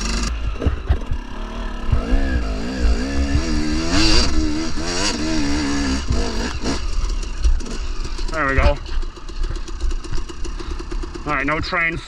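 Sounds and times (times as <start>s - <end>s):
dirt bike engine revving: 0.0s - 12.0s
steady low rumble: 0.0s - 12.0s.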